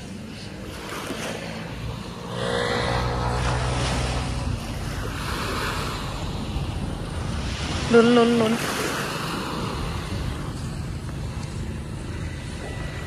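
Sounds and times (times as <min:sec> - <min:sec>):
small waves on sandy beach: 0:00.0 - 0:13.0
wind rumbling on microphone: 0:00.0 - 0:13.0.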